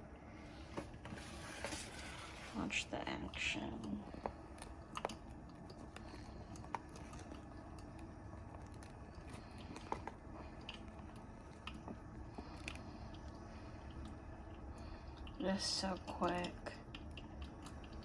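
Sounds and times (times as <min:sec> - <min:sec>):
coffee maker low rumble: 0:00.0 - 0:18.0.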